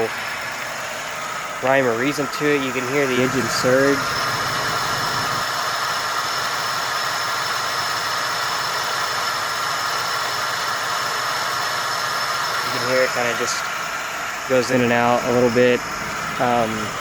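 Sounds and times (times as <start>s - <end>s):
car engine idling unevenly: 0.0s - 17.0s.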